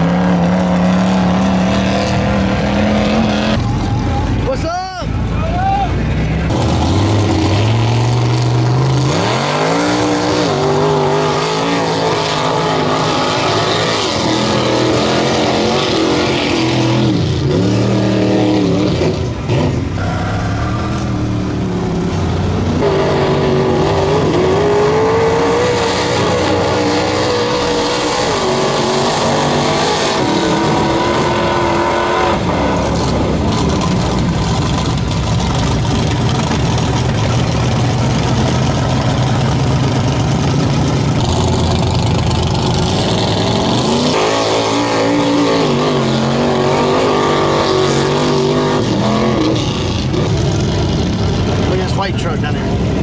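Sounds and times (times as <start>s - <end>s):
truck engines revving: 0.0s - 53.0s.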